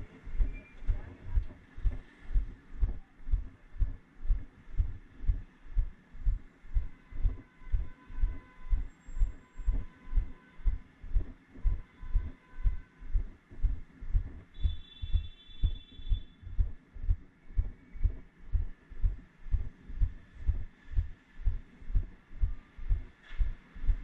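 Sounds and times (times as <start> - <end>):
faint street traffic: 0.0 - 24.0
rhythmic low thumping: 0.0 - 24.0.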